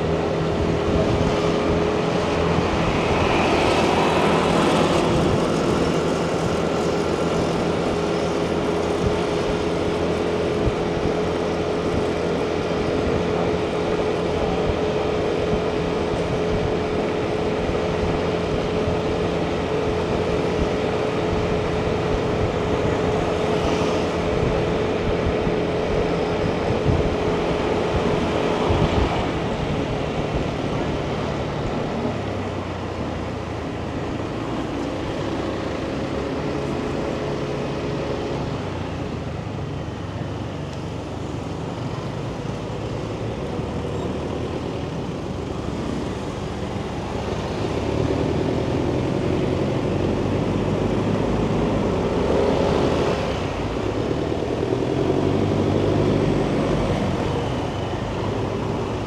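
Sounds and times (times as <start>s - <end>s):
motorbike engine drone: 0.0s - 59.0s
wind and road noise: 0.0s - 59.0s.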